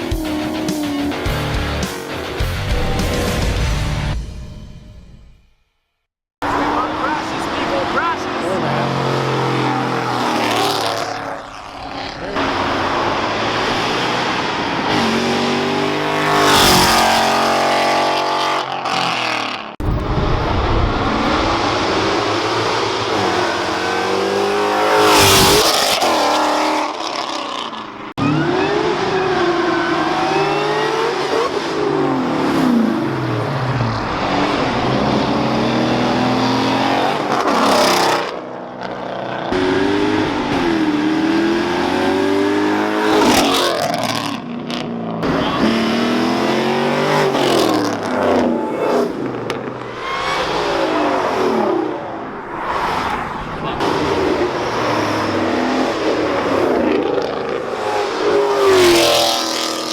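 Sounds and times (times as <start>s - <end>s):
car engines revving and accelerating: 0.0s - 3.6s, 6.4s - 20.1s, 20.9s - 59.9s.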